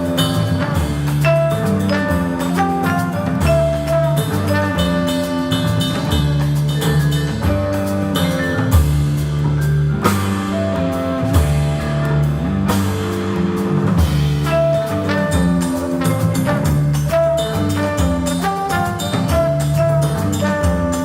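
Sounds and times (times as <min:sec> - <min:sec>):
jazz band playing: 0:00.0 - 0:21.0.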